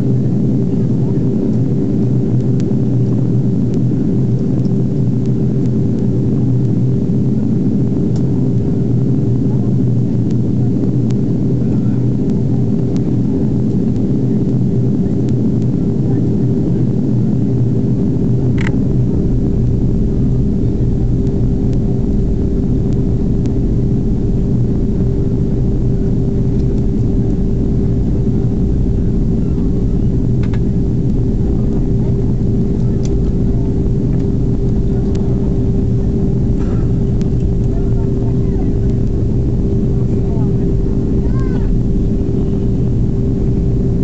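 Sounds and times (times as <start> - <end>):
aircraft engine drone and airflow: 0.0 - 44.0
constant hum: 0.0 - 44.0.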